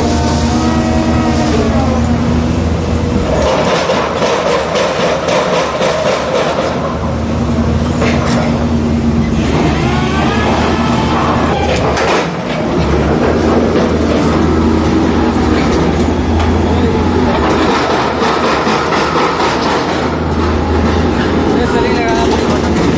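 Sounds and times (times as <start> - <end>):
train clanks: 0.0 - 22.9
train running on rails: 0.0 - 22.9.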